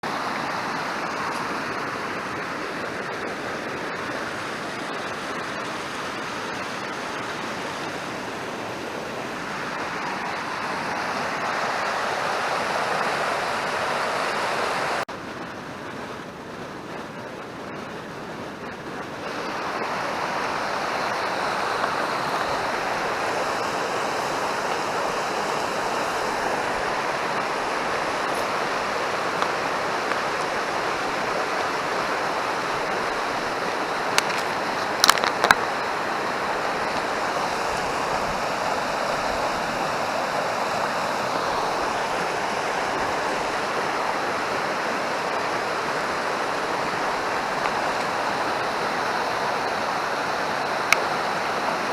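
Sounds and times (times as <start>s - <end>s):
river rushing: 0.0s - 51.9s.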